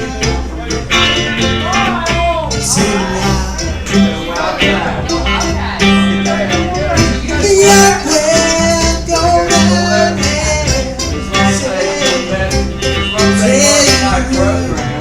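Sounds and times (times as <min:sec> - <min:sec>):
held melody line: 0:00.0 - 0:15.0
strummed guitar: 0:00.0 - 0:15.0
walking bass line: 0:00.0 - 0:15.0.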